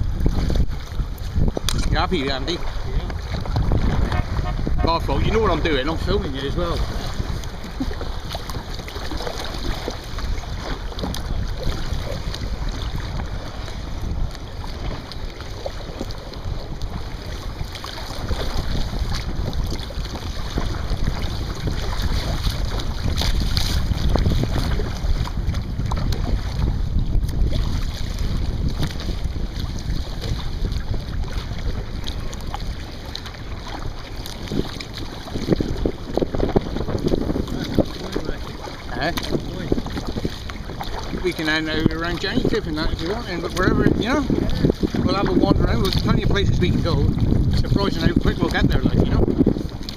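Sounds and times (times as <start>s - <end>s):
water splashing around kayak: 0.0s - 49.9s
wind buffeting microphone: 0.0s - 49.9s.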